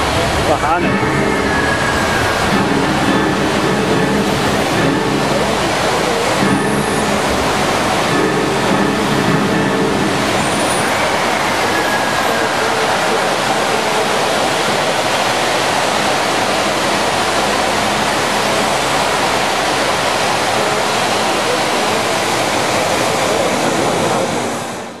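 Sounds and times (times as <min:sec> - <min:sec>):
fountain water rushing and hissing: 0:00.0 - 0:25.0.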